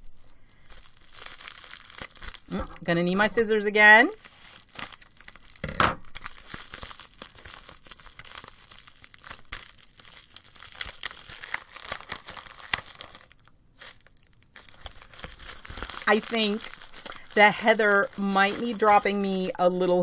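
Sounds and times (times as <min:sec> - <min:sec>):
wrapping crinkling and tearing: 0:00.0 - 0:02.8, 0:04.0 - 0:20.0.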